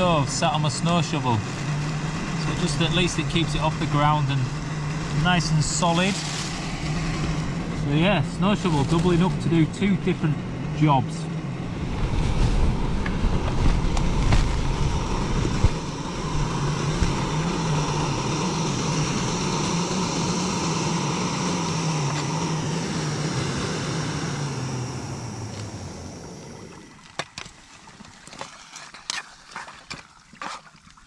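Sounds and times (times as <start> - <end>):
gas stove burner roaring: 0.0 - 27.1.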